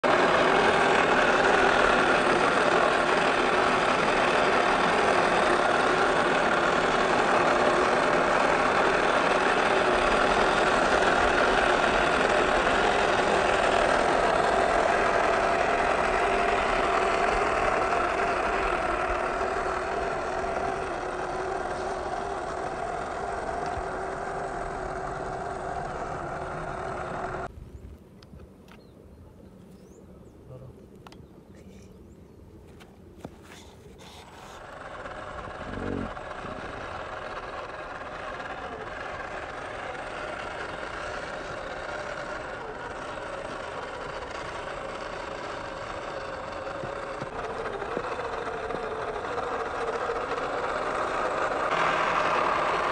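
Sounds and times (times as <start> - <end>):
motor hum: 0.0 - 52.9.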